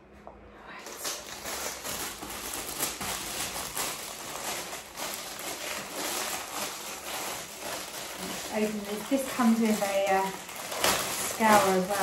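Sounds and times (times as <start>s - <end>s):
plastic packet crinkling: 0.7s - 12.0s.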